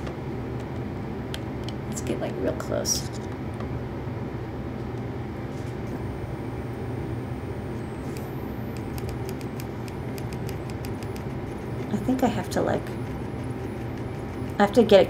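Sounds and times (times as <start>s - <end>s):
low hum of equipment: 0.0s - 15.0s.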